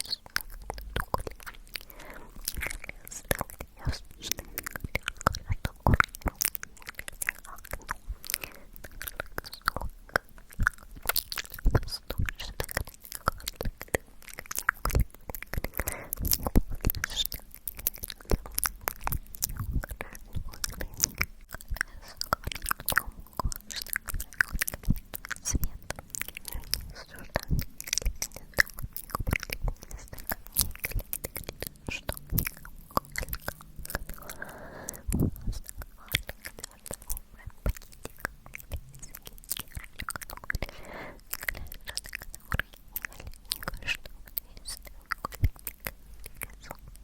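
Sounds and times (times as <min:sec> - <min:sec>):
wet mouth clicks and pops: 0:00.0 - 0:47.0.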